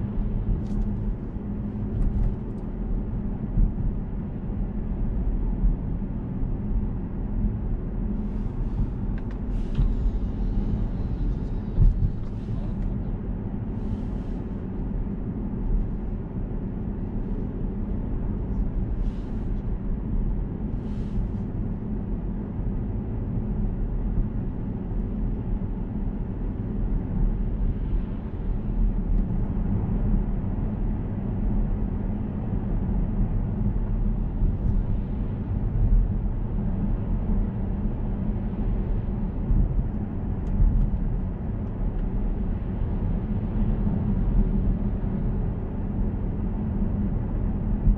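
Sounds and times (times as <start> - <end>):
car engine low hum: 0.0 - 47.9
road rumble inside car: 0.0 - 47.9.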